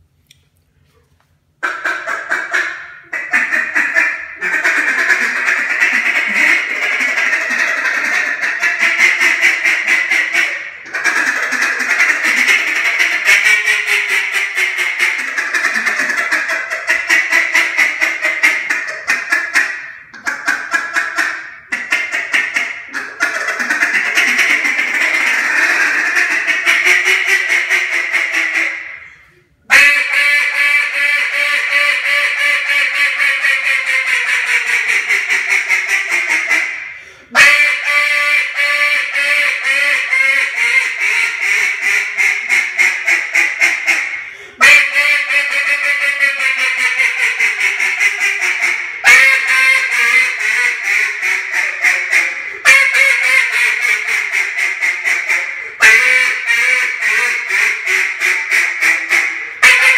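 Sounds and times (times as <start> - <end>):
duck call quacking: 1.6 - 59.9.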